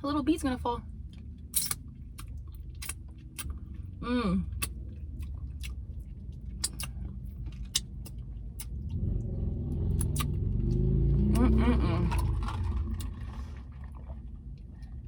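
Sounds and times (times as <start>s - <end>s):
low vehicle rumble: 0.0s - 15.0s
chewing with wet smacks: 0.9s - 15.0s.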